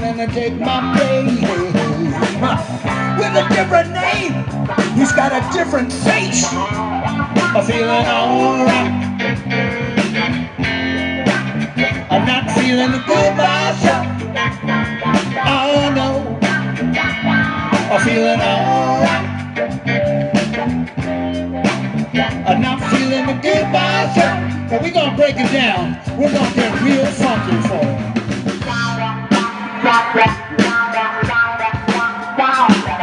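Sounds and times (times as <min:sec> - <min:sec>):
blues-rock music: 0:00.0 - 0:33.0.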